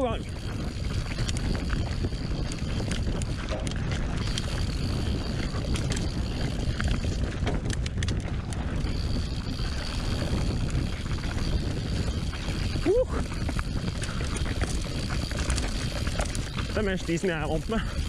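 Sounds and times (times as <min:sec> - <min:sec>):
bike chain rattling clicks: 0:00.0 - 0:18.0
bike tyres rolling on dirt: 0:00.0 - 0:18.0
wind rushing over microphone: 0:00.0 - 0:18.0.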